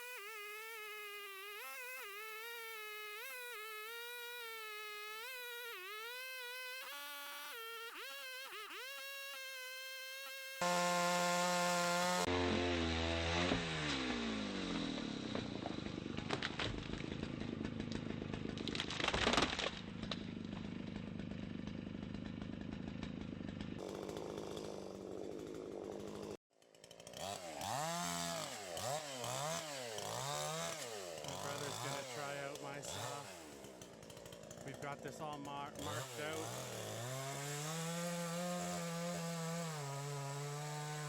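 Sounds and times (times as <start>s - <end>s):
chainsaw cutting wood: 0.0s - 41.0s.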